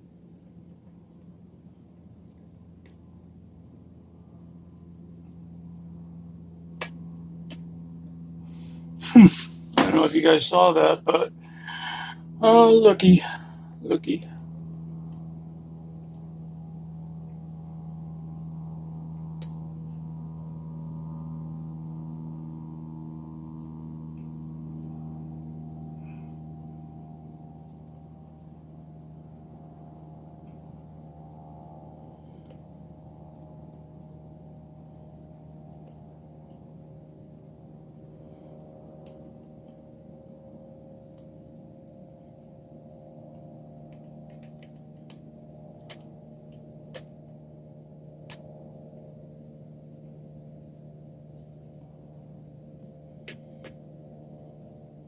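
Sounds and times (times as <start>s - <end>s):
low hum of held pitches: 0.0s - 55.0s.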